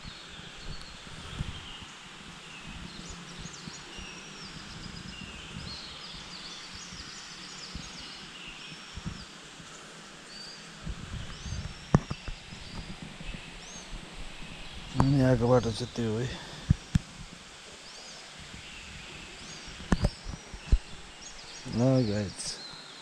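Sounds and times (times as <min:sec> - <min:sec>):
small birds chirping and whistling: 0:00.0 - 0:23.0
steady outdoor hiss: 0:00.0 - 0:23.0.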